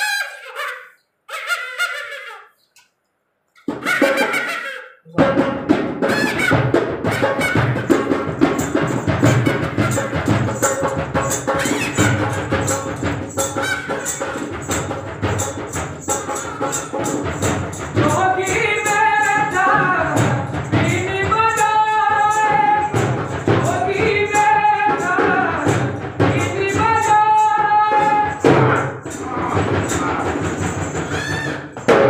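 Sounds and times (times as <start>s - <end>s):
fast jingling percussion: 6.1s - 32.0s.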